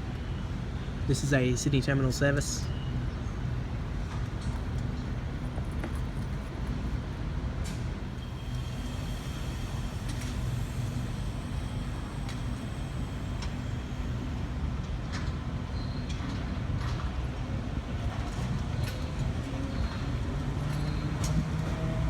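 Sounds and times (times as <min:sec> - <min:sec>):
electric train rumbling: 0:02.9 - 0:22.0.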